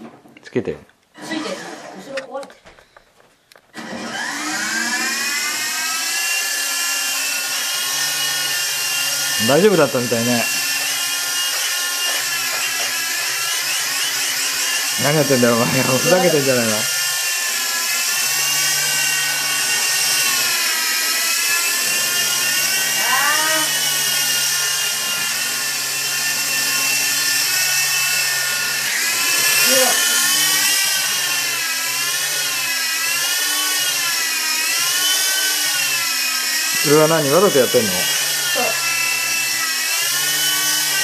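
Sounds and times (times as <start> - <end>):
toy helicopter motors whining: 1.2 - 2.5, 3.7 - 41.0.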